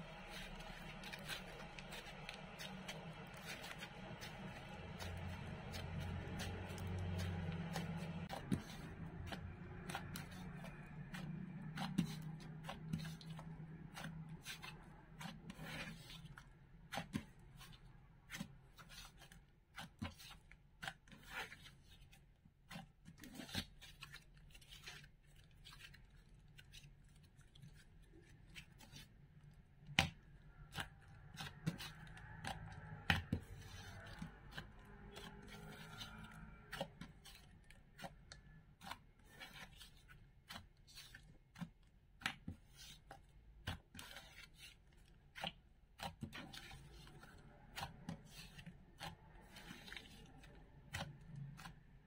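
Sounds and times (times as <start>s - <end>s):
fingers squishing slime: 0.0s - 52.0s.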